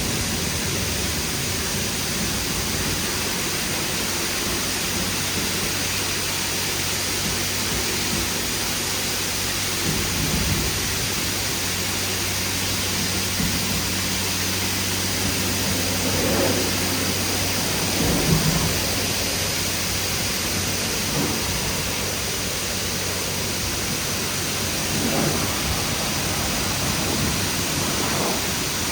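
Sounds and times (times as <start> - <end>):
steady low hum: 0.0 - 28.9
water jets hissing: 0.0 - 28.9.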